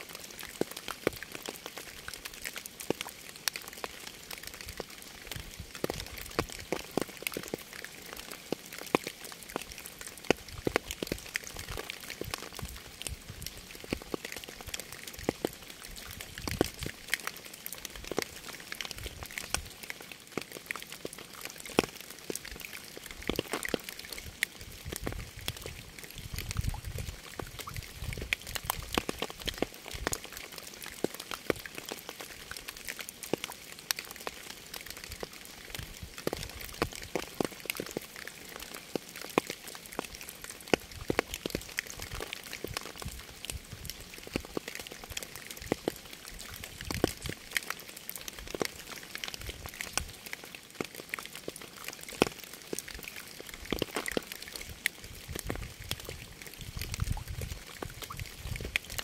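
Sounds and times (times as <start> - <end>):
raindrops ticking close by: 0.0 - 59.0
steady rain hiss: 0.0 - 59.0.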